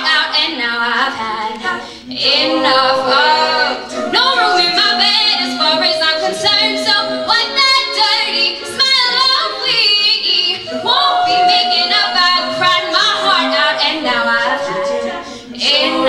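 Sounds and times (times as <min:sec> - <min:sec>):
a cappella group singing: 0:00.0 - 0:16.0
woman singing: 0:00.0 - 0:16.0.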